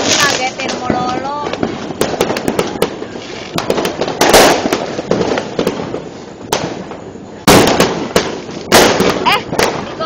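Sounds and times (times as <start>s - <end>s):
firework bang: 0.0s - 10.0s
fireworks cracking and popping: 0.0s - 10.0s.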